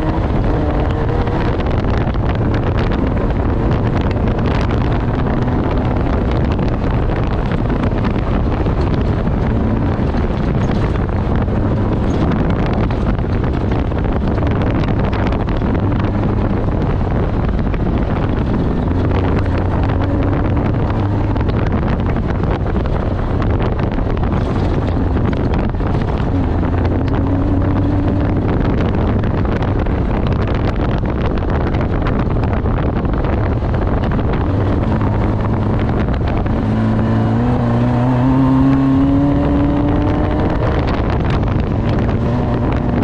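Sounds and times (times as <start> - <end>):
off-road vehicle engine: 0.0 - 43.0
wind buffeting microphone: 0.0 - 43.0.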